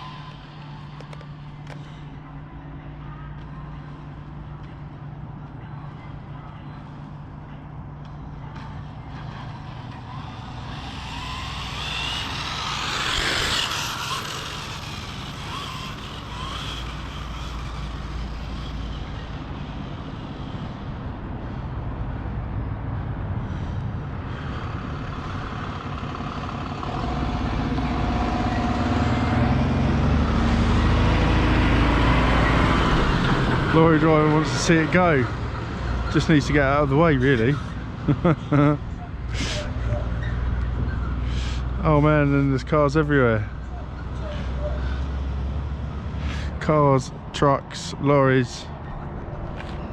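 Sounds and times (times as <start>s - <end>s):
lorry diesel engine: 0.0s - 49.9s
vehicle passing: 0.0s - 49.9s.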